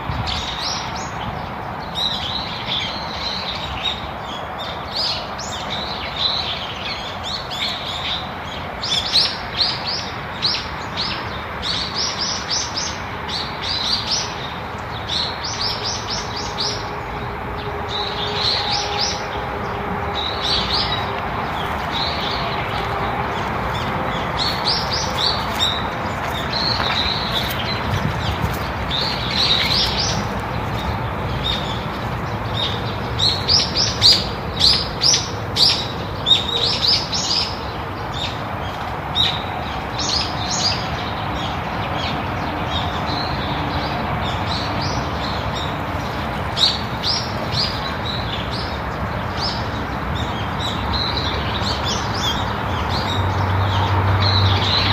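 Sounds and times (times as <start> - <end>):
songbirds chirping: 0.0 - 54.9
steady background noise: 0.0 - 54.9.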